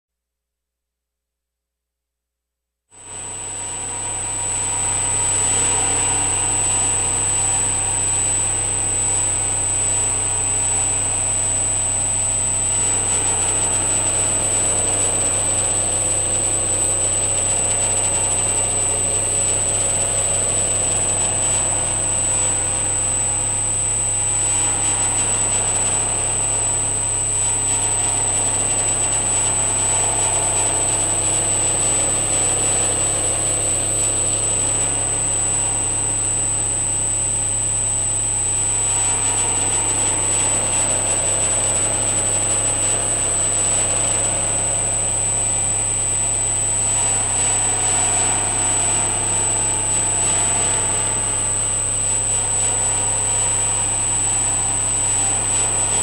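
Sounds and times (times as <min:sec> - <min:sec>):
synthesizer electronic drone: 0:03.5 - 0:56.0.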